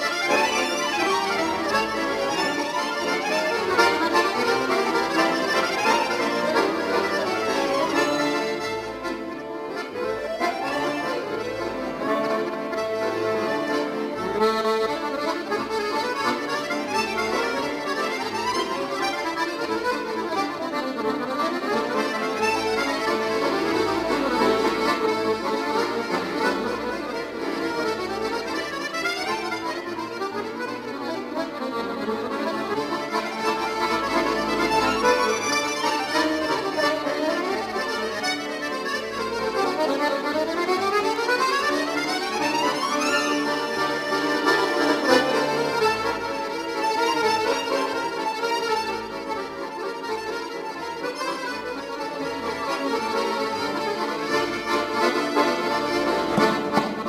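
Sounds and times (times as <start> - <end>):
accordions playing a waltz: 0.0 - 57.0.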